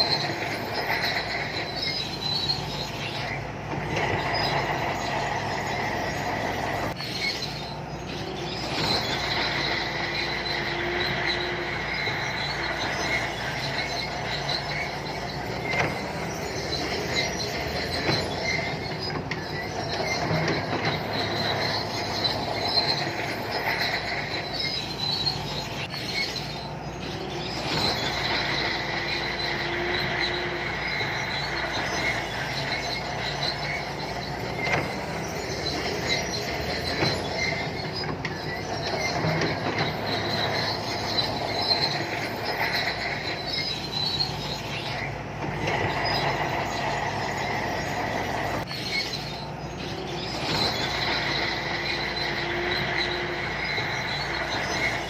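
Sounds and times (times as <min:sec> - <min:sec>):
bulldozer diesel engine running: 0:00.0 - 0:55.0
steel tracks squealing and clanking: 0:00.0 - 0:55.0.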